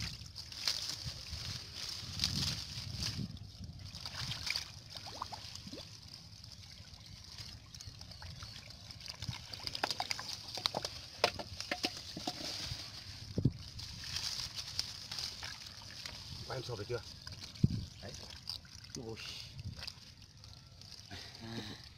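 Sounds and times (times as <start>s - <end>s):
hands squelching through wet mud: 0.0s - 11.2s, 12.8s - 21.9s.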